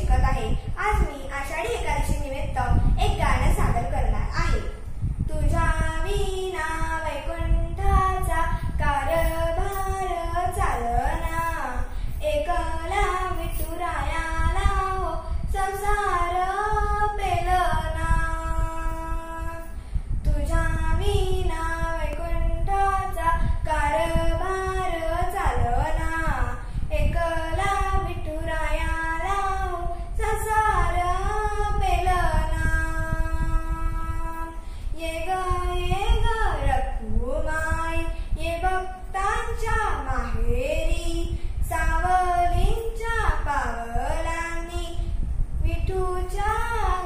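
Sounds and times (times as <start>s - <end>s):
girl singing solo: 0.0s - 47.0s
low steady rumble: 0.0s - 47.0s.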